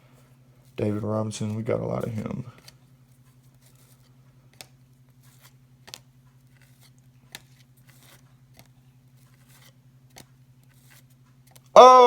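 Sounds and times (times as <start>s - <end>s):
cards rustling: 0.6s - 11.8s.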